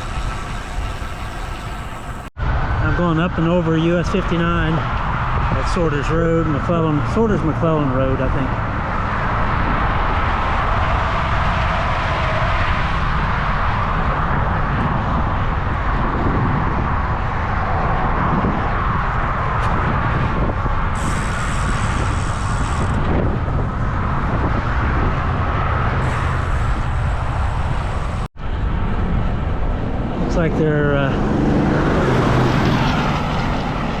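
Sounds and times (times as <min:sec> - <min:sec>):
car traffic: 0:00.0 - 0:34.0
wind rushing over microphone: 0:00.0 - 0:34.0.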